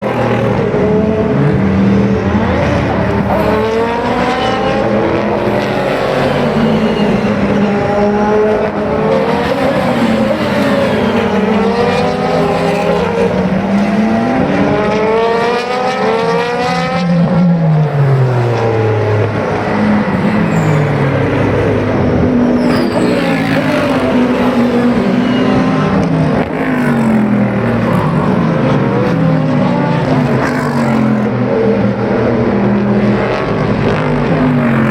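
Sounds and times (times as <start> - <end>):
race car engines downshifting: 0.0 - 34.9.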